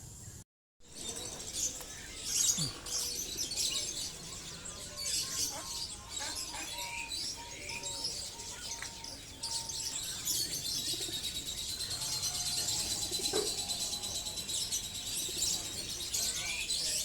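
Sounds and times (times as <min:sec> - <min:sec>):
caged songbirds chirping: 0:00.0 - 0:17.0.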